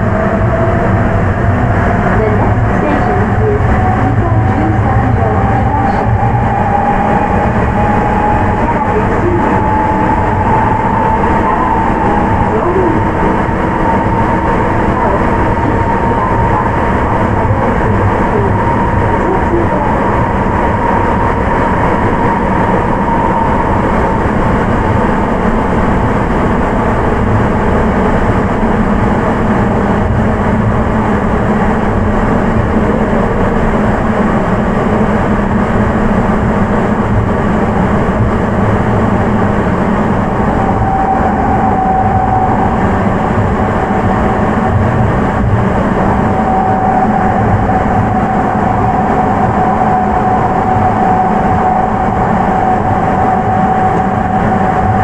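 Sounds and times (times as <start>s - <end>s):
subway train rumble in tunnel: 0.0s - 55.0s.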